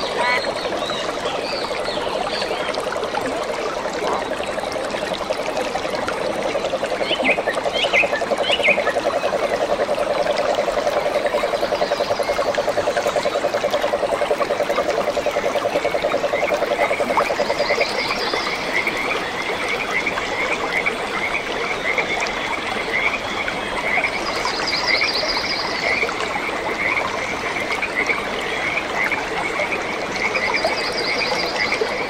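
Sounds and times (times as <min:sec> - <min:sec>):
frogs trilling: 0:00.0 - 0:32.0.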